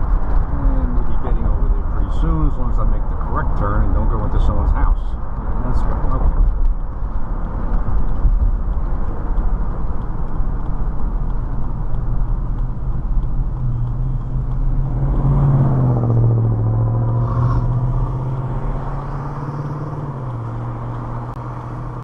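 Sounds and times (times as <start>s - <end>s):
car engine: 0.0s - 22.0s
low tyre rumble: 0.0s - 22.0s.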